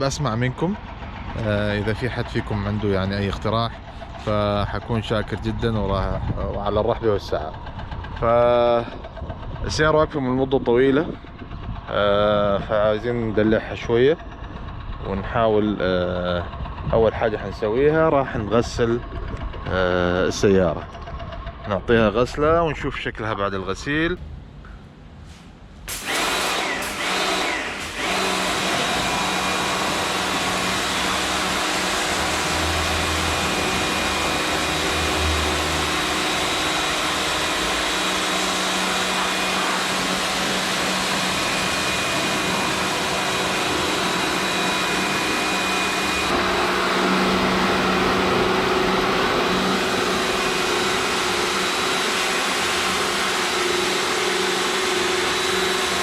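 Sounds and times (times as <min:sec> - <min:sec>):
pressure washer motor drone: 0:00.0 - 0:21.7, 0:25.9 - 0:56.0.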